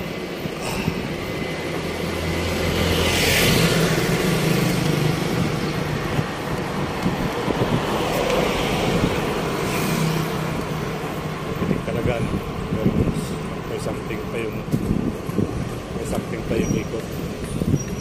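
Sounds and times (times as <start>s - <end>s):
road traffic engine hum: 0.0s - 18.0s.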